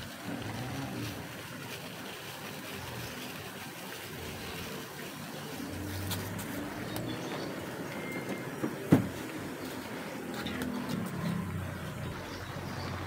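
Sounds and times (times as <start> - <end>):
food simmering in a wok: 0.0 - 13.0.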